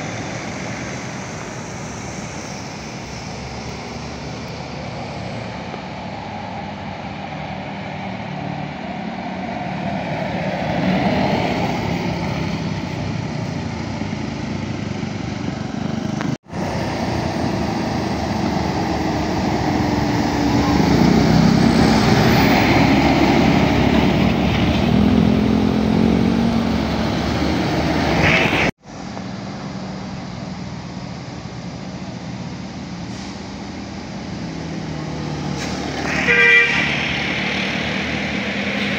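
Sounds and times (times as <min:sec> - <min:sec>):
heavy vehicles driving past: 0:00.0 - 0:38.9.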